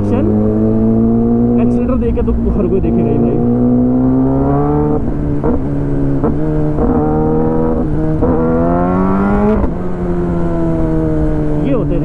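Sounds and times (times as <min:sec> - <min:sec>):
loud motorcycle engine revving: 0:00.0 - 0:12.0.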